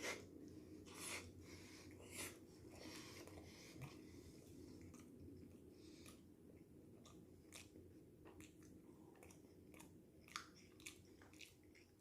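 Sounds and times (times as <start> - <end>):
chewing food: 1.9 - 12.0.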